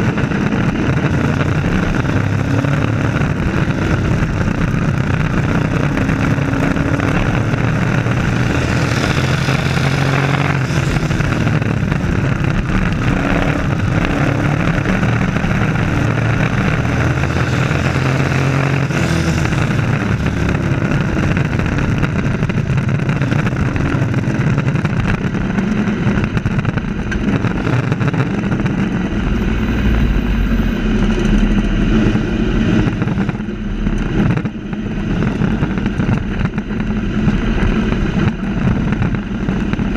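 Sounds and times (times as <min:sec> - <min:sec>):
race truck engines: 0:00.0 - 0:39.9
trucks passing by: 0:00.0 - 0:39.9.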